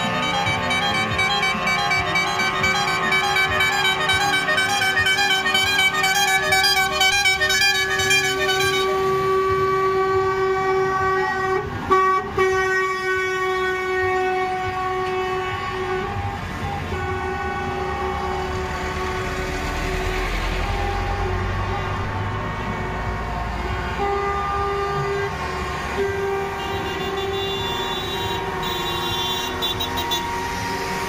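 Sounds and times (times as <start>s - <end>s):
engine noise: 0.0s - 31.0s
heavy truck engine rumbling: 0.0s - 31.0s
truck horns blasting: 0.0s - 31.0s.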